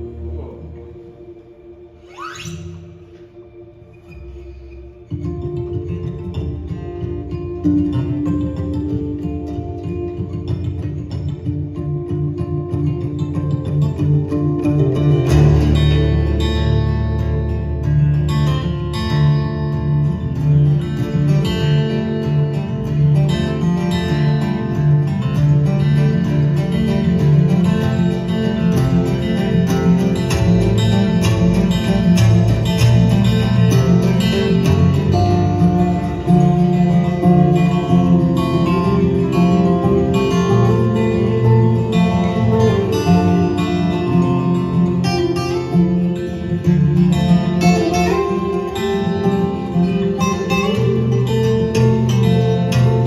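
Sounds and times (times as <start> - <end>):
acoustic guitar duet: 0.0 - 53.0.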